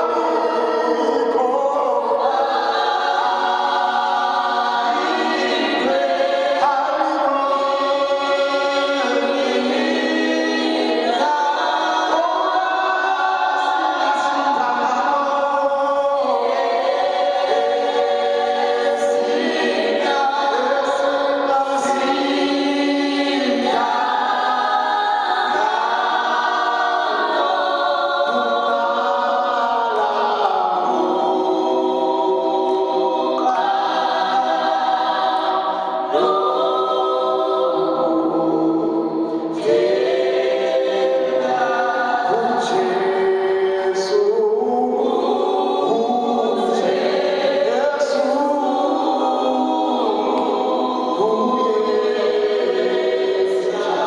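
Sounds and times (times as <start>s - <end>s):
gospel choir singing in harmony: 0.0s - 54.0s.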